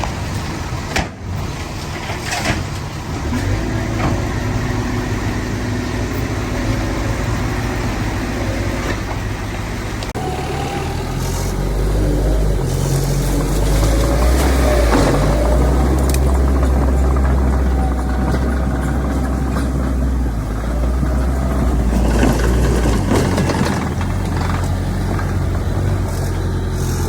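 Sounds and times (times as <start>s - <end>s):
heavy diesel machinery engine running: 0.0s - 27.0s.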